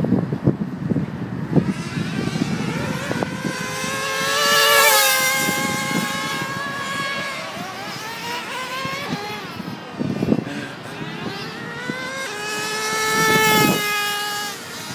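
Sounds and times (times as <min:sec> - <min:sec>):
radio-controlled cars whining past: 0:01.3 - 0:14.9.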